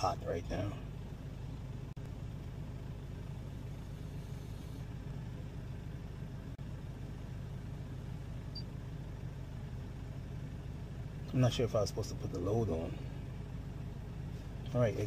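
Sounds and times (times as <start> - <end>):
air conditioning running: 0.0 - 15.0
diesel engine idling: 0.0 - 15.0.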